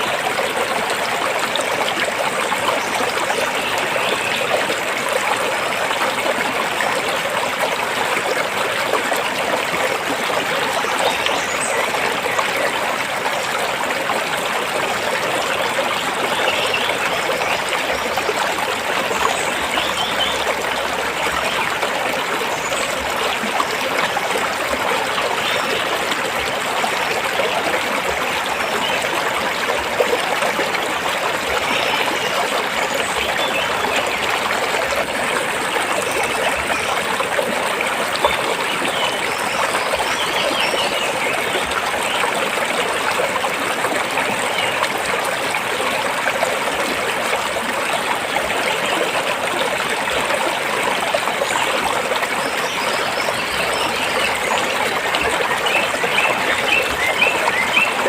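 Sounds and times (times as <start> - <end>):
stream flowing between rocks: 0.0 - 58.0.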